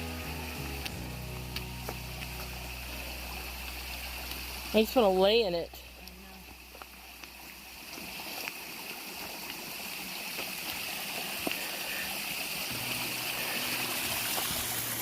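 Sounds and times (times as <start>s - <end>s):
river water flowing over rocks: 0.0s - 15.0s.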